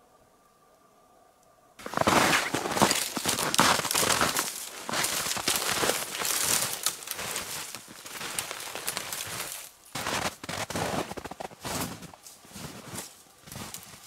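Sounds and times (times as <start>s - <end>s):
footsteps crunching through snow: 1.8s - 14.0s
twigs and branches crackling: 1.8s - 14.0s.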